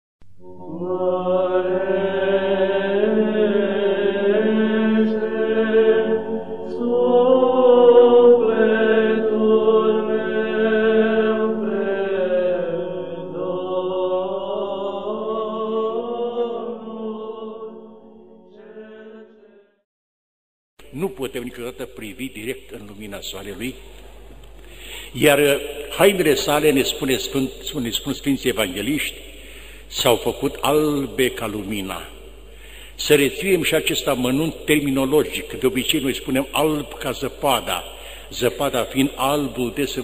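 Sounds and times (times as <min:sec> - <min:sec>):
church chant over drone: 0:00.4 - 0:19.8, 0:20.9 - 0:23.9, 0:24.7 - 0:40.0.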